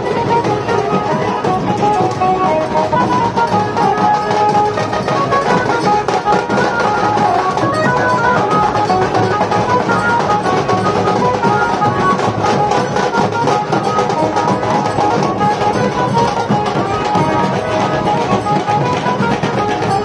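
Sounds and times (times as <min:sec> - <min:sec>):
drum band beating: 0:00.0 - 0:20.0
melody of held notes: 0:00.0 - 0:20.0.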